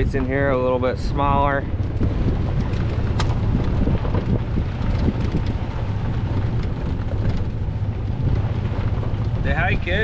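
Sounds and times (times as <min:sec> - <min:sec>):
golf cart low rumble: 0:00.0 - 0:10.0
wind buffeting microphone: 0:00.0 - 0:10.0.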